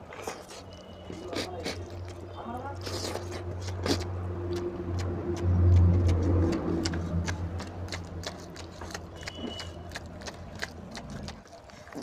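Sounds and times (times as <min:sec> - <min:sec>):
wet chewing and smacking: 0:00.0 - 0:12.0
low engine-like hum: 0:00.6 - 0:11.5.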